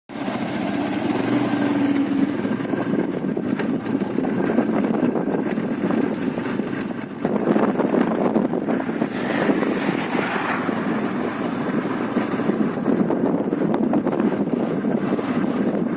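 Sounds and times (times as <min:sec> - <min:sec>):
road noise: 0:00.1 - 0:15.9
vehicle engine running: 0:00.1 - 0:15.9.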